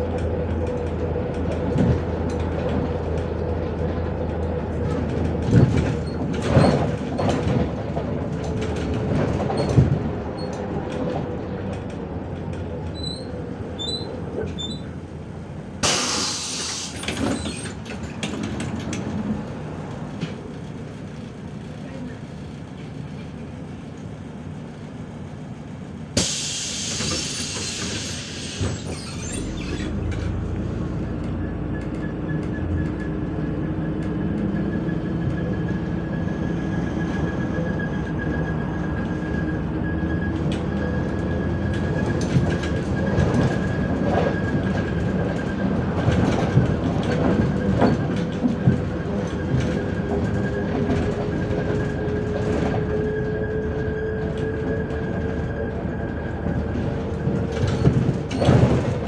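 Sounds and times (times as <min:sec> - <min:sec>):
bus body rattling: 0:00.0 - 0:23.9, 0:26.0 - 0:59.0
bus engine whine: 0:00.0 - 0:59.0.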